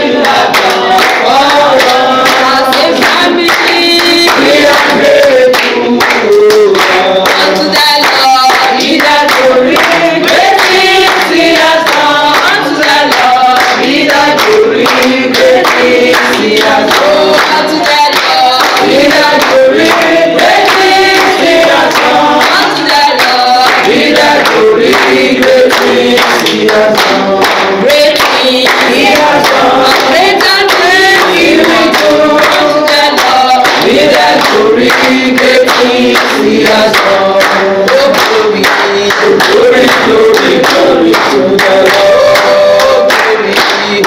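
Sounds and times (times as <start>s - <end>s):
hands clapping: 0.0s - 44.0s
women singing together: 0.0s - 44.0s.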